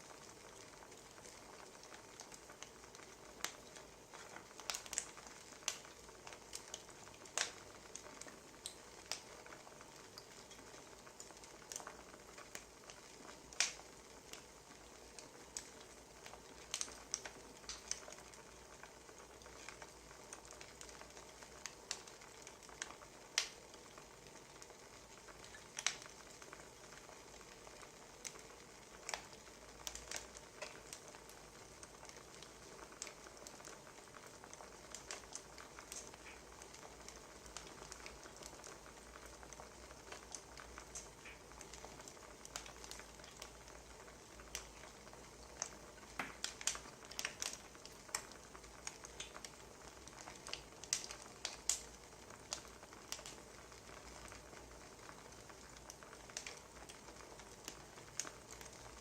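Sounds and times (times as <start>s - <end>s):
faint steady hiss: 0.0s - 59.0s
wood fire snaps and pops: 0.1s - 59.0s.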